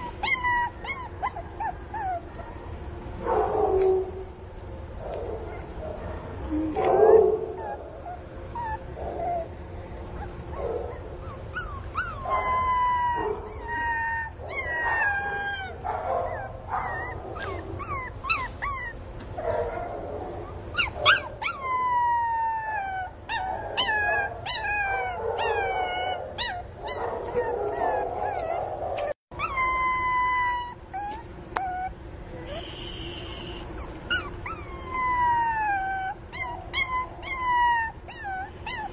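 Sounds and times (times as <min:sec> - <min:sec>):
puppy whining: 0:00.0 - 0:02.8, 0:05.4 - 0:19.8, 0:20.4 - 0:38.9.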